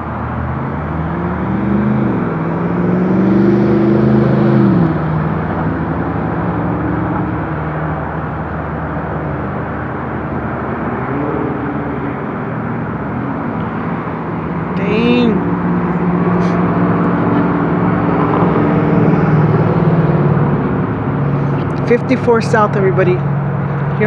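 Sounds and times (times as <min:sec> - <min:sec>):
car engine revving and shifting: 0:00.0 - 0:24.0
tyre road noise: 0:00.0 - 0:24.0.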